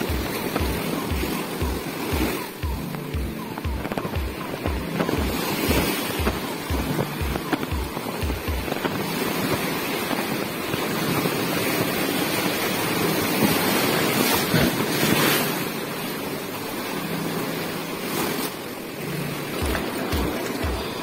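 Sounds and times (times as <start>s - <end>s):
sea waves washing against rocks: 0.0s - 21.0s.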